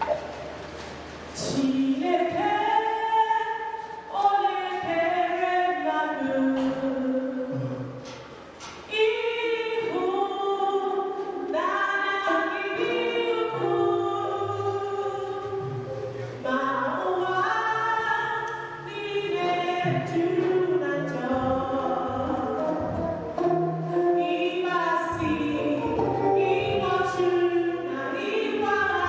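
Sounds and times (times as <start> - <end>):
women singing gospel in harmony: 1.4 - 8.0, 8.9 - 23.2, 24.0 - 29.0.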